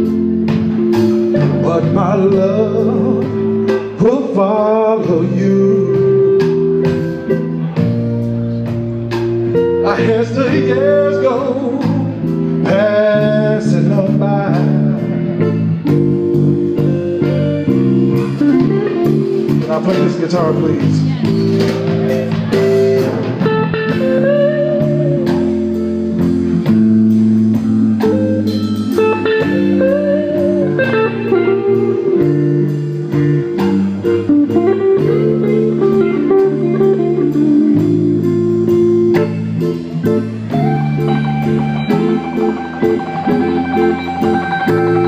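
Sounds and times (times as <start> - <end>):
electric guitar solo: 0.0 - 45.0
steady drum beat: 0.0 - 45.0.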